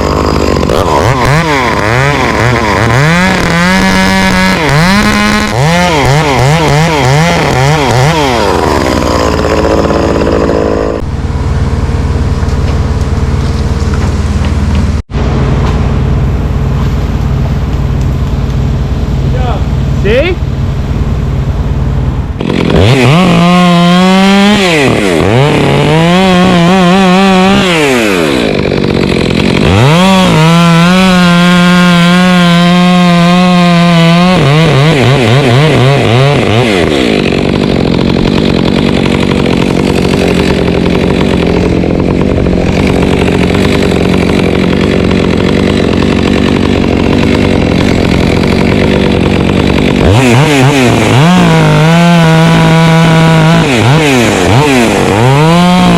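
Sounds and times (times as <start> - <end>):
chainsaw cutting through wood: 0.0 - 55.9
chainsaw revving: 0.0 - 55.9.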